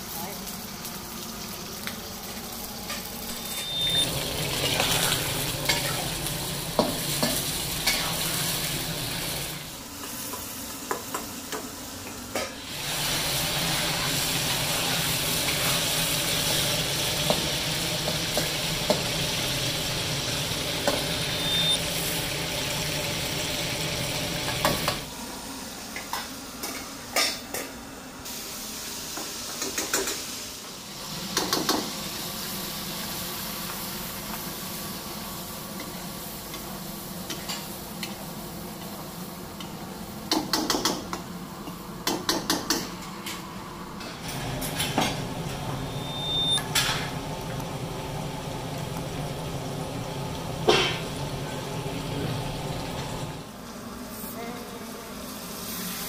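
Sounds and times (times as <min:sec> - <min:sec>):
chicken sizzling in hot oil: 0:00.0 - 0:11.6, 0:12.6 - 0:25.1, 0:28.3 - 0:40.2, 0:44.3 - 0:53.5, 0:55.3 - 0:56.0.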